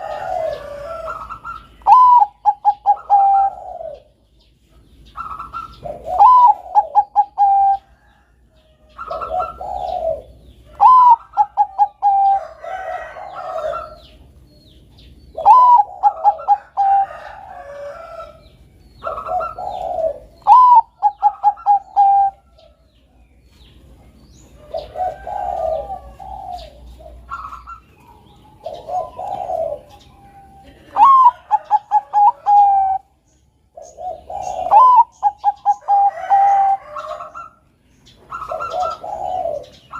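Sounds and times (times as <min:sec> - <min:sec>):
dove cooing: 0:00.0 - 0:22.9, 0:23.9 - 0:39.9.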